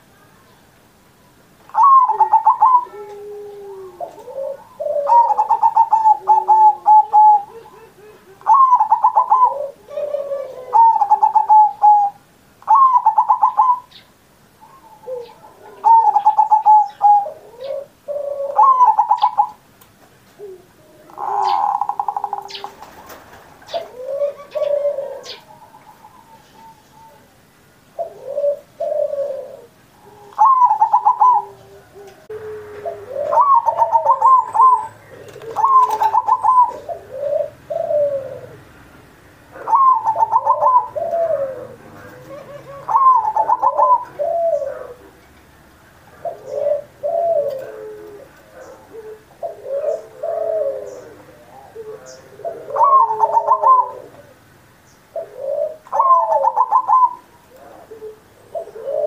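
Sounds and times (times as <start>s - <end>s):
dove cooing: 1.7s - 38.9s, 39.5s - 54.5s, 55.1s - 59.0s.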